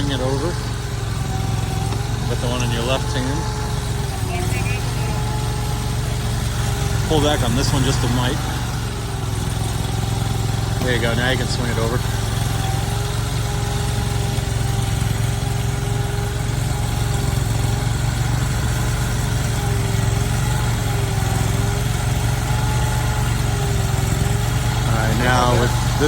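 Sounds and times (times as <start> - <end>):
crane engine humming: 0.0 - 26.0.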